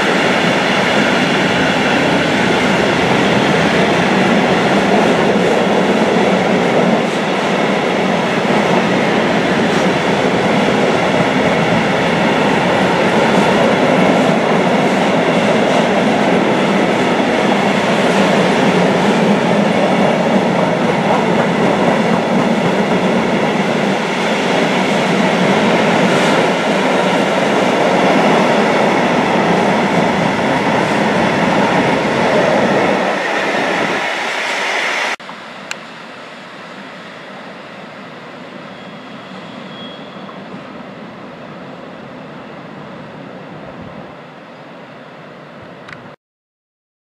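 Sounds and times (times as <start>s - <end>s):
freight train wheels rumbling: 0.0s - 44.1s.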